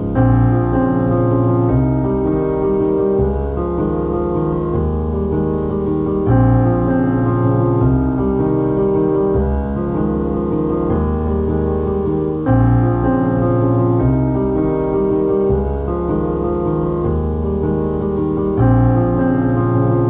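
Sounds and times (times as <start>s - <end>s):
piano chords: 0.0s - 20.0s.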